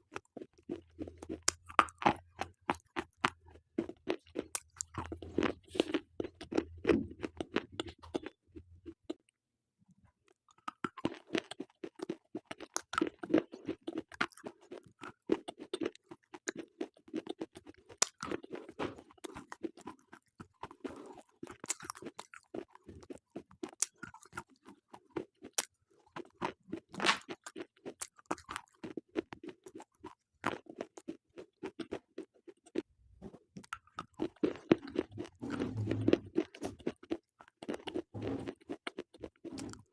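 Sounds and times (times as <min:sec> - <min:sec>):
slate pencils being chewed: 0:00.0 - 0:09.3, 0:10.3 - 0:39.9.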